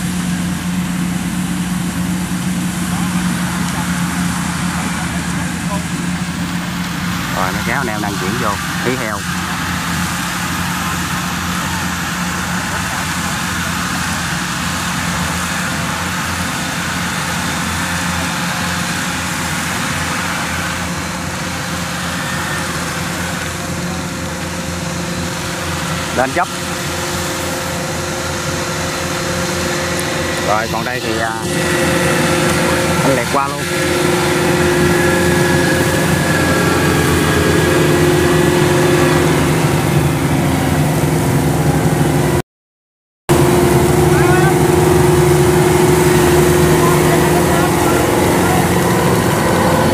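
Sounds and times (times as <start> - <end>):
tracked vehicle engine running: 0.0 - 42.4, 43.3 - 49.9.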